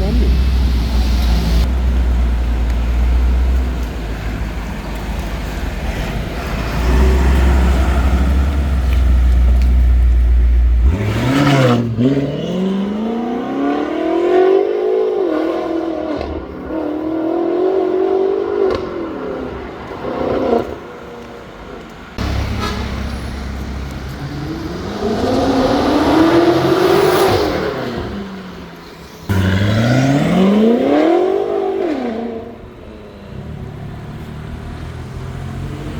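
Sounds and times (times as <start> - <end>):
car engine accelerating: 0.0 - 20.8, 22.2 - 35.9.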